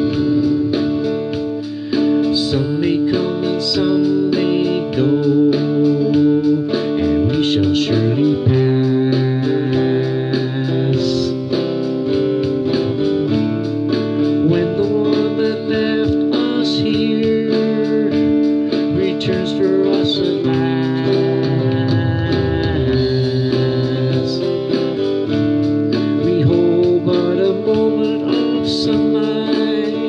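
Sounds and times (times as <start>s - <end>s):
strummed guitar: 0.0s - 30.0s.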